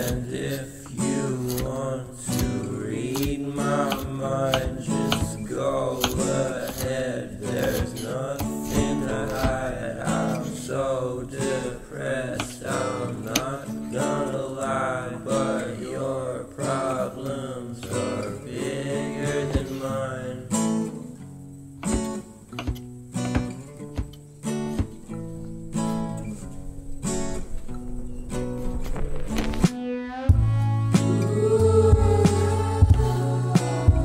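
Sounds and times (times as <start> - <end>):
acoustic guitar music: 0.0 - 34.0.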